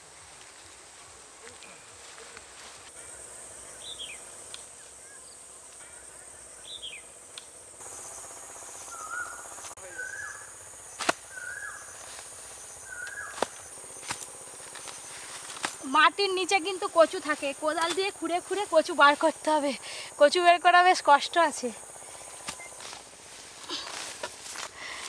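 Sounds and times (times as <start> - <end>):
high-pitched insect buzz: 0.6 - 25.0
birds calling: 1.4 - 20.3, 21.2 - 25.0.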